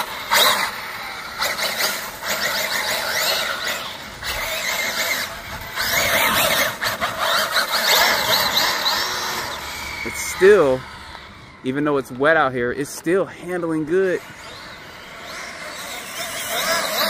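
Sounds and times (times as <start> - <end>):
rc car motor whining: 0.0 - 17.0.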